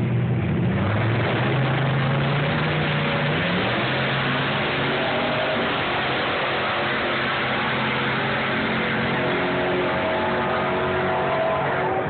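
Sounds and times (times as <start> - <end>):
broad wash of noise: 0.0 - 12.0
loud car engines at full throttle: 0.0 - 12.0.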